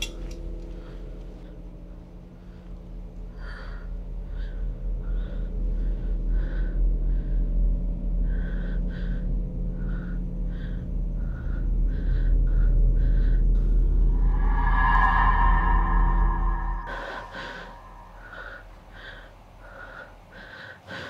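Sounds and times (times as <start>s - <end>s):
low rumbling horror drone: 0.5s - 20.9s.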